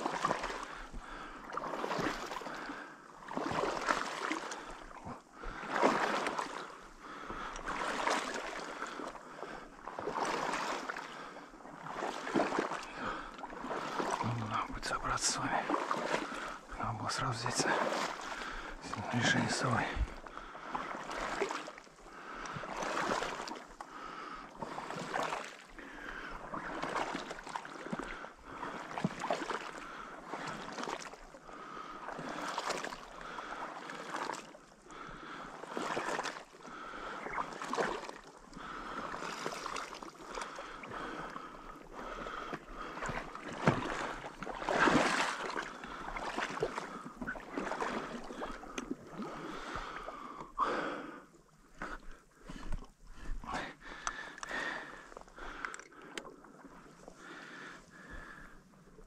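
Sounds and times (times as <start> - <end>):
wading through shallow water: 0.0 - 59.0.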